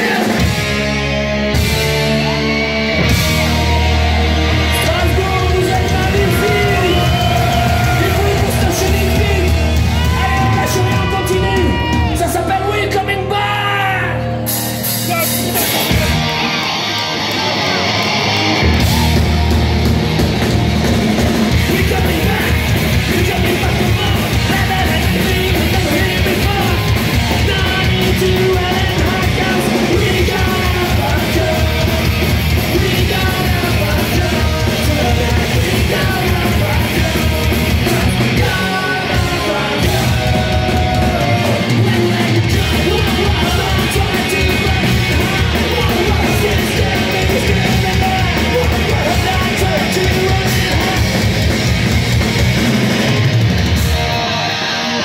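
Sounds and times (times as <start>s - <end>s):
bass guitar: 0.0s - 55.0s
distorted electric guitars: 0.0s - 55.0s
drums: 0.0s - 55.0s
shouted vocals: 1.8s - 14.5s, 15.1s - 20.1s, 21.4s - 51.3s.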